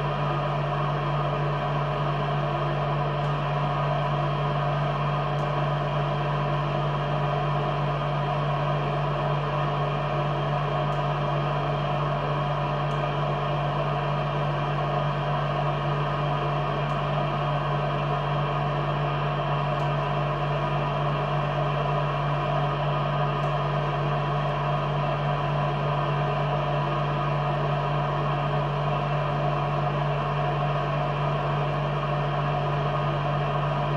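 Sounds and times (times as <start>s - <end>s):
laser cutting machine humming: 0.0s - 33.9s.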